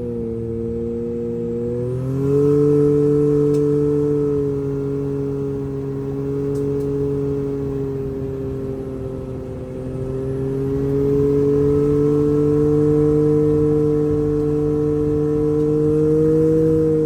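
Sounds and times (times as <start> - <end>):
turbocharged engine running: 0.0 - 17.0.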